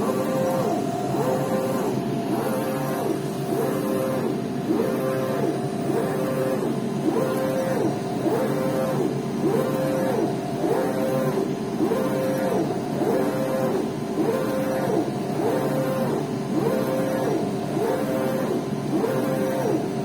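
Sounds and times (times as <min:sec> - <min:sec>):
printer carriage motor whining: 0:00.0 - 0:19.9.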